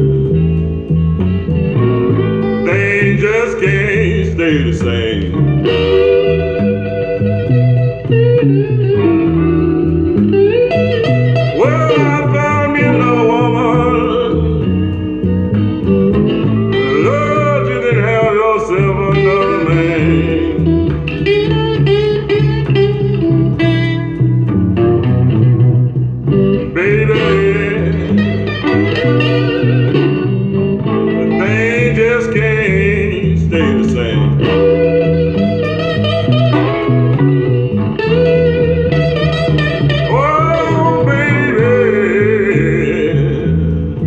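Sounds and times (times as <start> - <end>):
song with guitar and vocals: 0.0 - 44.0.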